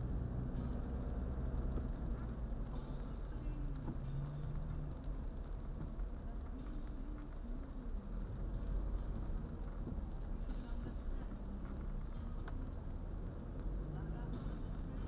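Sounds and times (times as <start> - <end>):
car driving on wet road: 0.0 - 15.0.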